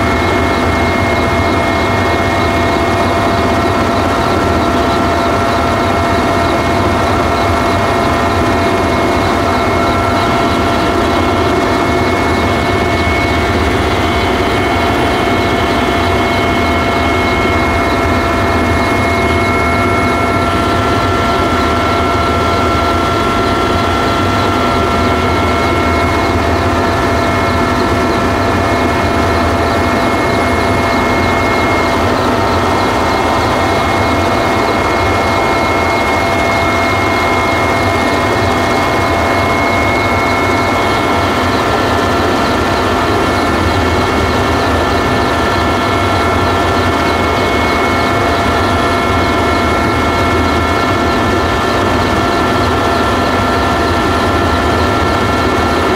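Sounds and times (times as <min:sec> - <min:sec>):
helicopter engine and rotor drone: 0:00.0 - 0:55.9
high whine: 0:00.0 - 0:55.9.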